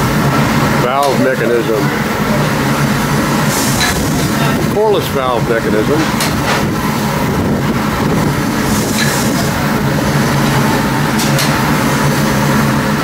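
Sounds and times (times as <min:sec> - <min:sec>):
steam engine running: 0:00.0 - 0:13.0.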